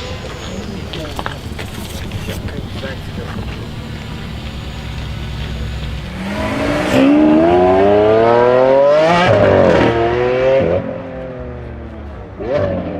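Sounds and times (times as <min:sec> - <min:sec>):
gear change: 0:00.0 - 0:12.2
car engine accelerating hard: 0:00.0 - 0:12.9.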